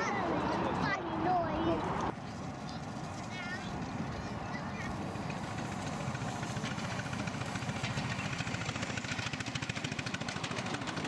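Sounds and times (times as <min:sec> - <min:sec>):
miniature steam locomotive chugging: 0:00.0 - 0:11.0.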